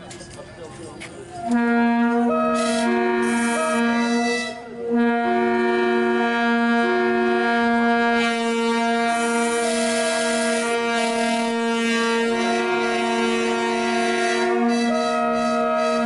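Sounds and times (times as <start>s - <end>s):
locomotive air horns blasting: 1.4s - 16.0s.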